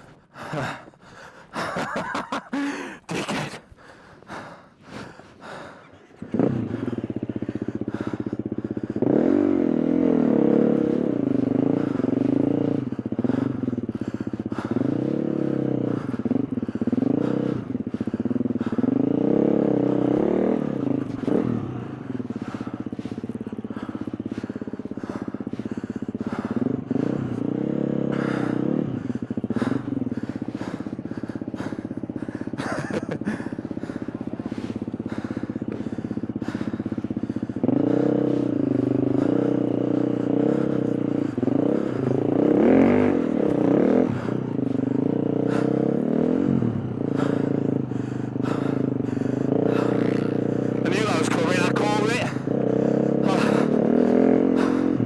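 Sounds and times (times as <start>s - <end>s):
dirt bike engine revving: 5.5s - 55.0s.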